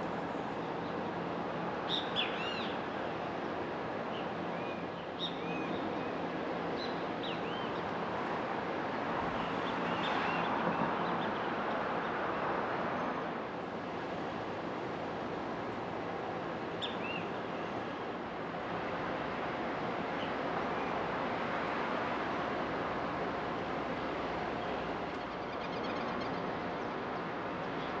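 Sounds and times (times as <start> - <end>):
outdoor rumble and hiss: 0.0 - 28.0.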